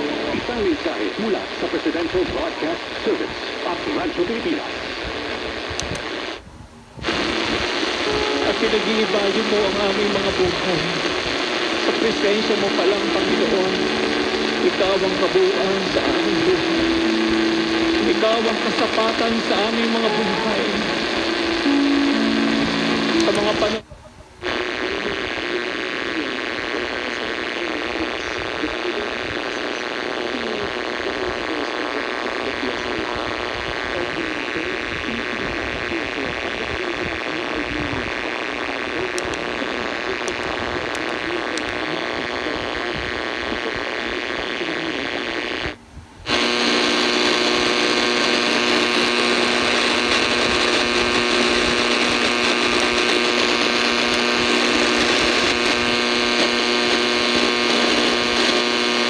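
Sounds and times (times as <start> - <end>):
interference buzz: 0.0 - 23.8, 24.4 - 59.0
radio static hiss: 0.0 - 59.0.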